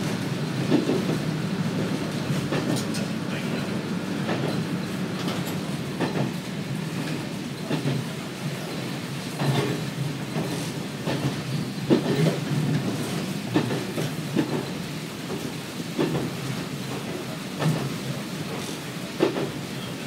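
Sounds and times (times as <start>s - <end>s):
railcar engine drone: 0.0s - 20.0s
wheels clicking over rail joints: 1.8s - 17.9s.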